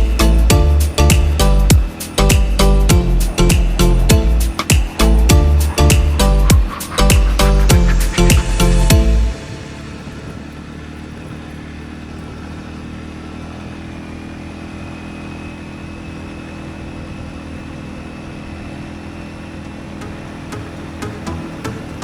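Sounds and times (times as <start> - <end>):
atv engine droning: 0.0 - 22.0.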